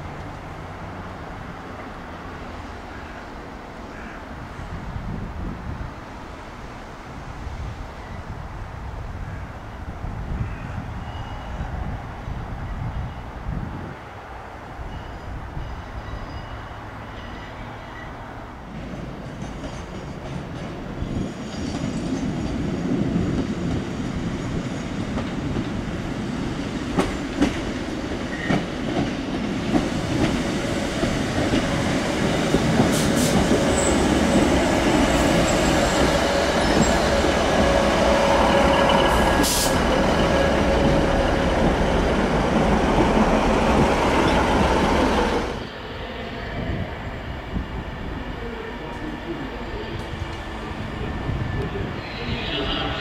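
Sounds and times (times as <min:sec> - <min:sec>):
train rumbling past: 0:00.0 - 0:53.0.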